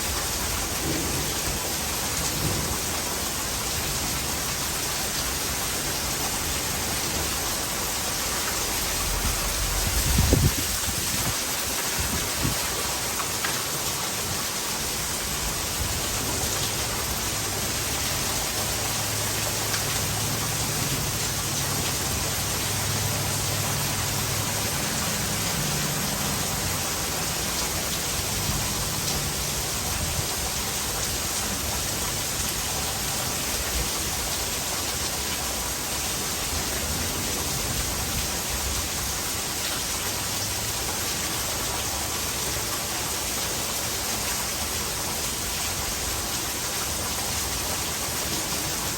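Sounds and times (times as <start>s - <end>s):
heavy rain: 0.0s - 48.9s
water pouring into a gutter: 0.0s - 48.9s.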